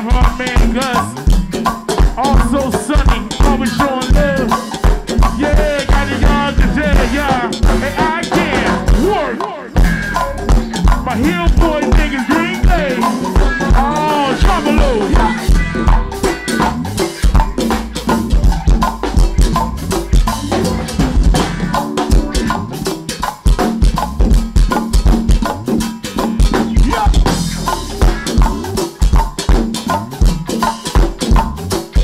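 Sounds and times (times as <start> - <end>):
bass line: 0.0 - 32.0
drum kit beat: 0.0 - 32.0
hand percussion: 0.0 - 32.0.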